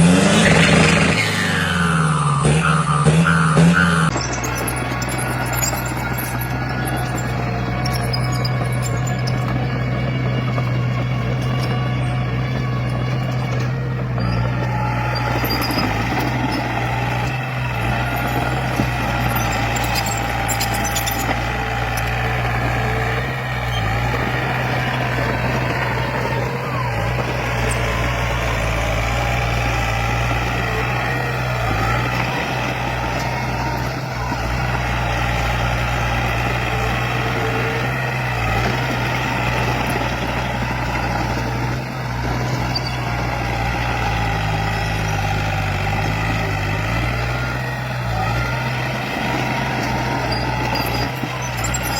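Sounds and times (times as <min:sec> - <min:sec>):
heavy machinery diesel engine running: 0:00.0 - 0:51.9.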